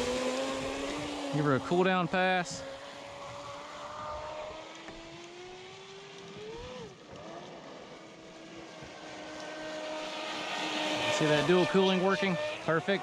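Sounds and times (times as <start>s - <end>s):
distant speedboat motor whine: 0.0s - 13.0s.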